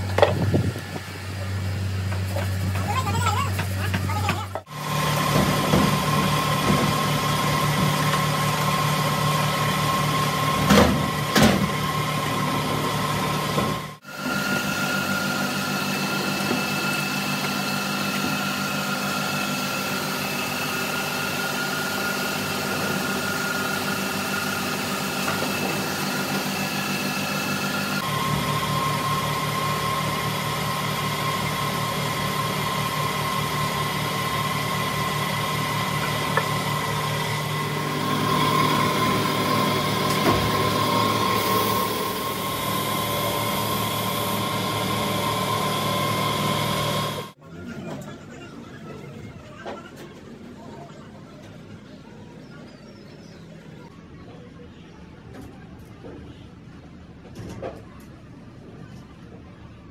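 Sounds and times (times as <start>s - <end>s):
workshop motor droning: 0.0s - 59.9s.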